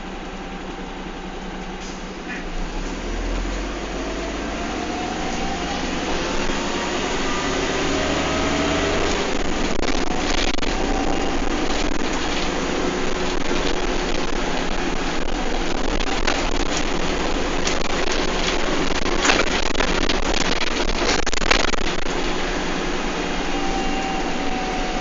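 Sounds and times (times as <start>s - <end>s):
bus engine running: 0.0s - 25.0s
road and wind noise: 0.0s - 25.0s.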